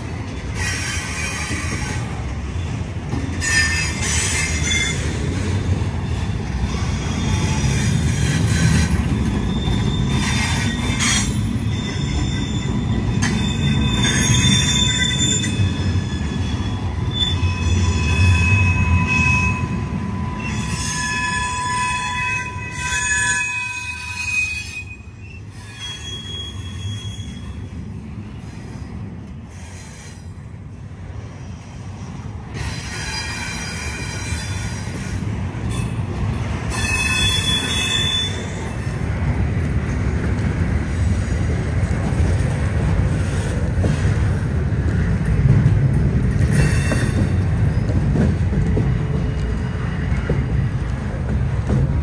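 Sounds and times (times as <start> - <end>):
train wheels squealing: 0.0 - 39.1, 46.3 - 50.8
freight train rumble: 0.0 - 52.0.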